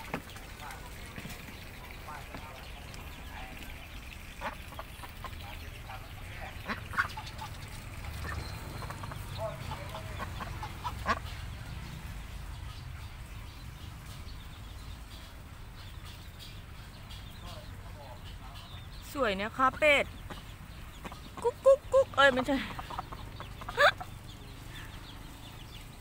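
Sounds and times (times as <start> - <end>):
ducks quacking: 0.0 - 25.5.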